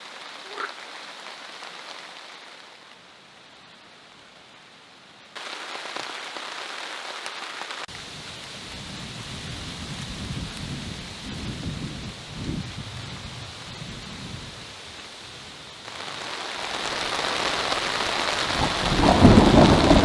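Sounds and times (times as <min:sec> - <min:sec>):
heavy rain pattering: 0:00.0 - 0:20.0.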